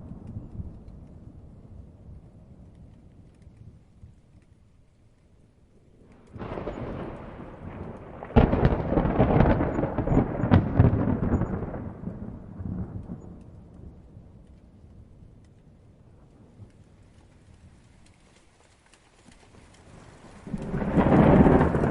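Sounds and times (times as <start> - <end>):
thunder rumbling and cracking: 0.0 - 18.1, 19.5 - 21.9
light rain hissing: 0.0 - 21.9.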